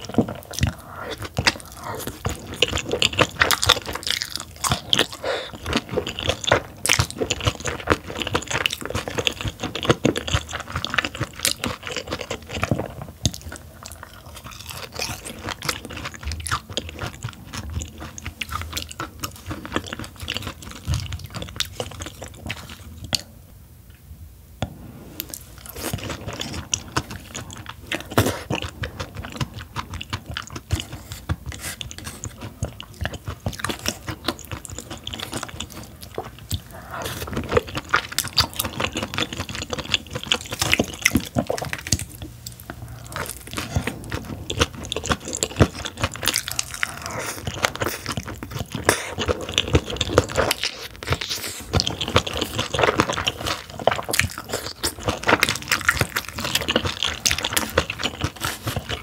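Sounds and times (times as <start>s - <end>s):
crackly chewing mouth sounds: 0.0s - 23.5s, 24.6s - 59.0s.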